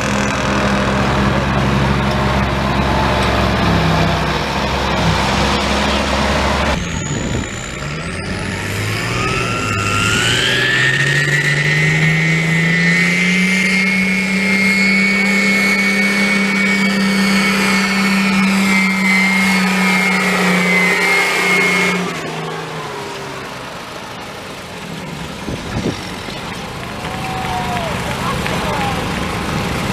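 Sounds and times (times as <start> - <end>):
high whine: 0.0 - 29.9
truck engine at full revs: 0.0 - 29.9.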